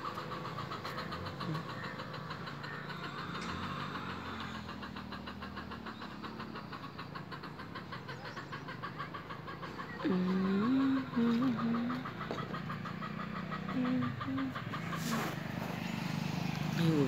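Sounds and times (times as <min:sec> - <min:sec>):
fast even pulsing: 0:00.0 - 0:17.0.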